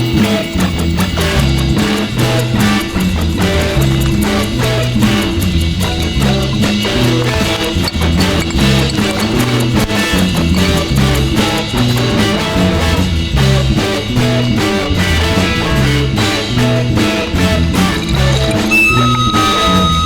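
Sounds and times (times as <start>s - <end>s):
bass line: 0.0s - 20.0s
drum kit beat: 0.3s - 19.8s.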